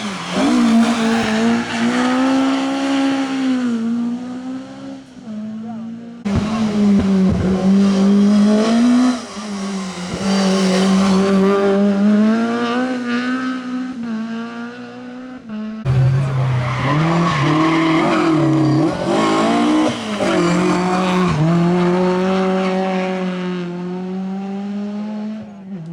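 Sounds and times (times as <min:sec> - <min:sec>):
rally car engines revving: 0:00.0 - 0:25.9.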